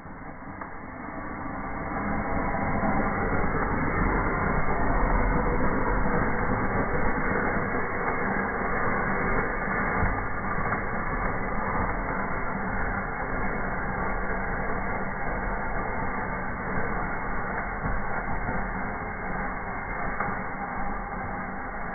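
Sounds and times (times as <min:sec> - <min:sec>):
fire crackling in a fireplace: 0:00.0 - 0:21.9.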